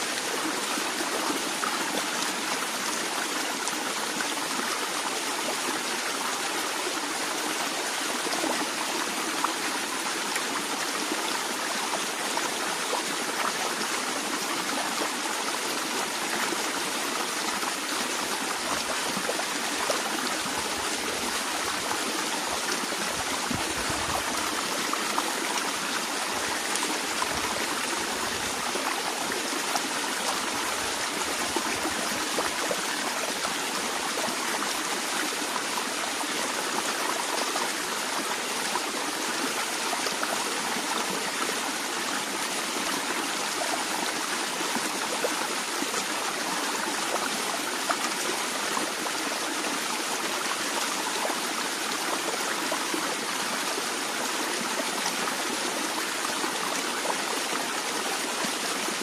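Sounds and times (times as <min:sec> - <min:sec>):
water flowing: 0:00.0 - 0:59.0.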